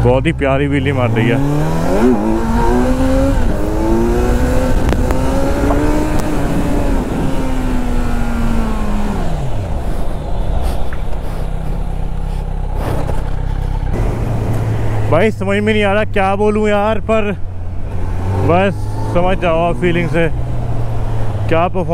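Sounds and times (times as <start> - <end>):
motorcycle engine revving: 0.8 - 16.1, 17.4 - 21.7.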